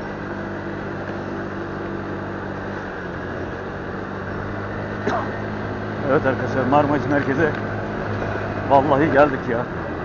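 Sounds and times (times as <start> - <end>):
motorcycle engine running: 0.0 - 10.0
road noise: 0.0 - 10.0.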